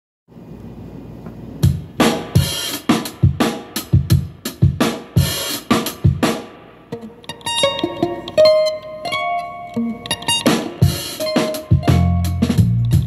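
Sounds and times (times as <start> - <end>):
drum kit beat: 1.5 - 13.0.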